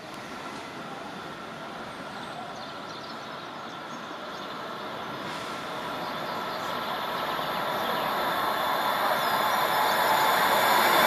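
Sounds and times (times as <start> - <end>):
train rail noise with whine: 0.0 - 11.0.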